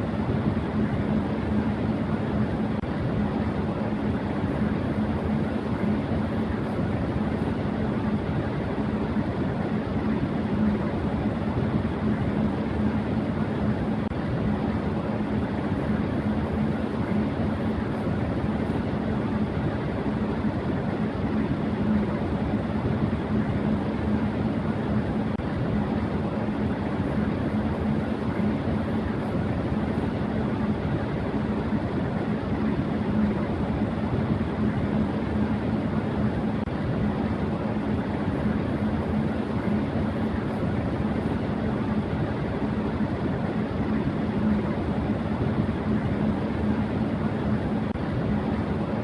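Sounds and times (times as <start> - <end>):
electric fan running: 0.0 - 49.0.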